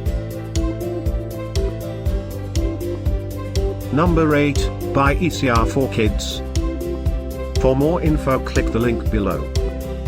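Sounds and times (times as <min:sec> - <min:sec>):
light background music: 0:00.0 - 0:10.0.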